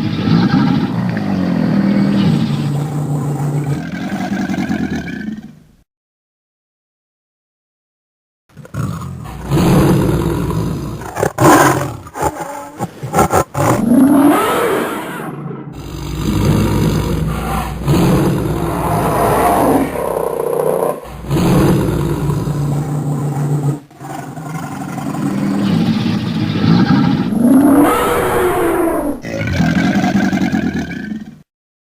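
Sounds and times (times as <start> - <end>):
dragon roars and growls: 0.0 - 5.4, 8.7 - 31.4.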